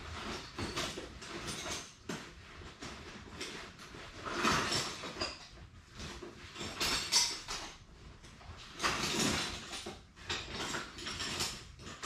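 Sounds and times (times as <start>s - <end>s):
scraping clatter of tools: 0.0s - 12.0s.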